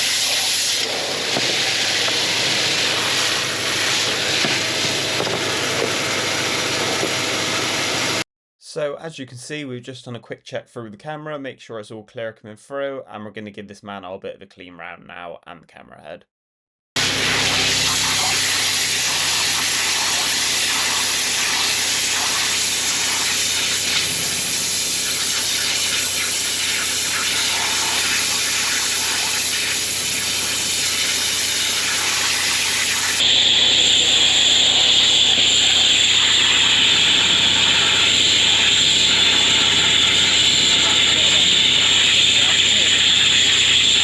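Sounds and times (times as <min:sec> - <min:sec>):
high-pressure water spraying: 0:00.0 - 0:08.2, 0:17.0 - 0:44.0.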